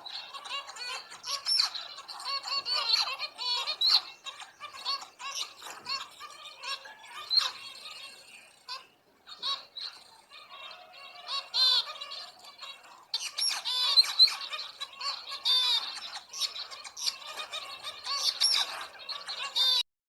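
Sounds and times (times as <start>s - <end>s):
birds chirping and squawking: 0.0s - 19.8s.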